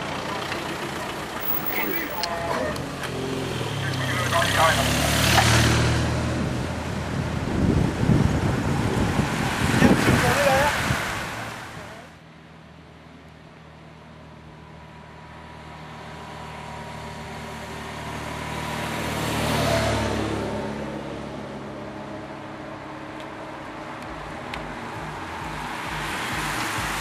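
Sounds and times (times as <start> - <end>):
vehicle engine passing by: 0.0 - 12.2, 14.8 - 27.0.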